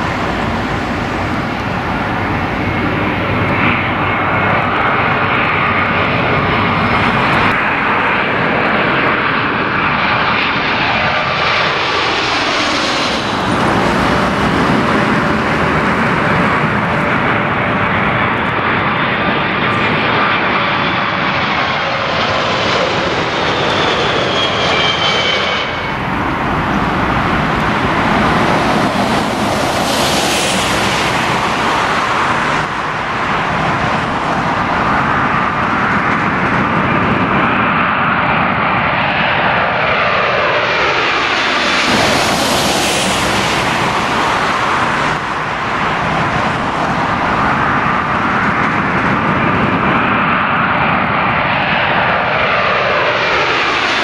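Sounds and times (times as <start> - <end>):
jet engines roaring overhead: 0.0 - 54.0.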